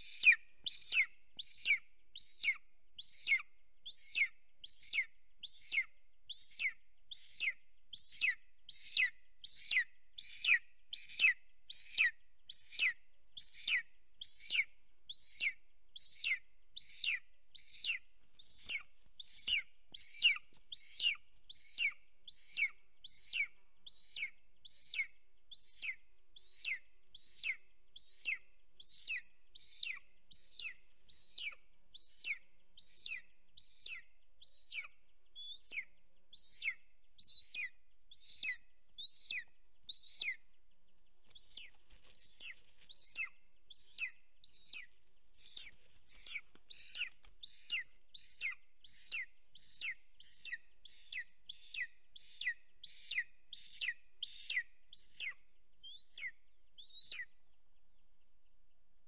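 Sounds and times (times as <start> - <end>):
eagle chick begging calls: 0.0 - 40.6, 41.2 - 57.4.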